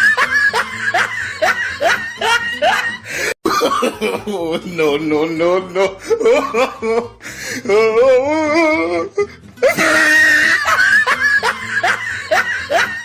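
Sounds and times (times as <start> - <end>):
man laughing hysterically: 0.0 - 13.0
music: 0.0 - 13.0.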